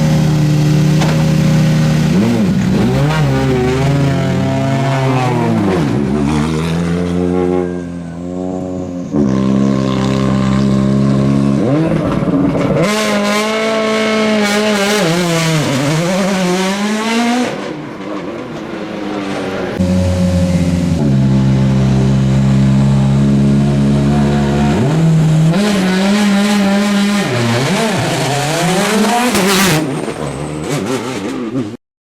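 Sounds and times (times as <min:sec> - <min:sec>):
rally car engines revving: 0:00.0 - 0:31.8.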